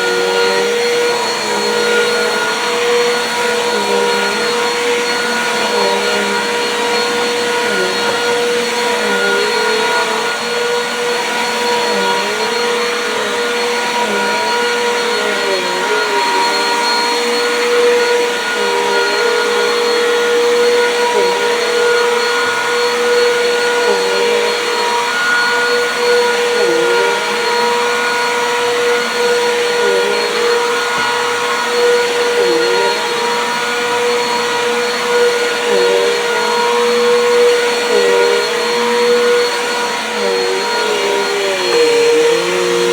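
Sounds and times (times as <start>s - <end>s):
vacuum cleaner on carpet: 0.0s - 42.9s.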